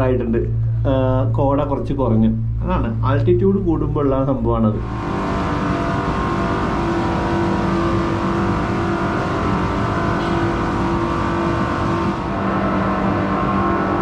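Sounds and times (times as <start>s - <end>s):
ropeway machinery droning: 0.0s - 14.0s.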